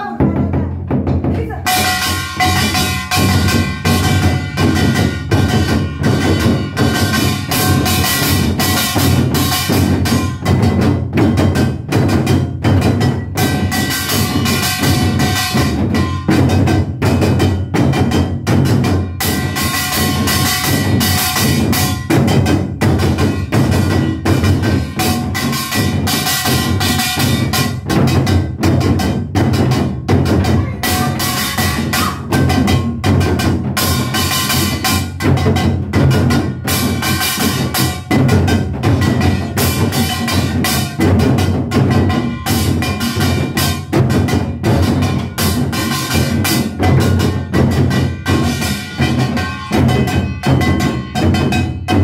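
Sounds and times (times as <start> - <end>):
drums beaten rapidly with sticks: 0.0 - 52.0.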